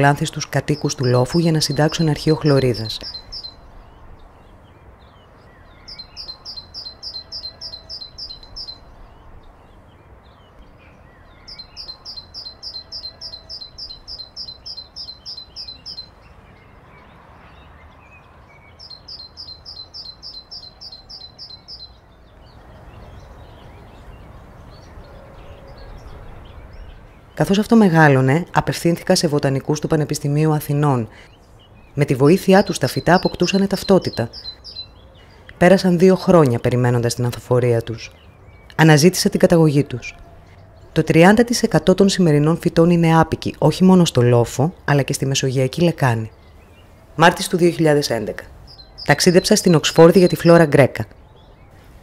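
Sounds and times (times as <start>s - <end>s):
bird chirping rapidly: 0.0s - 16.8s, 17.6s - 52.0s.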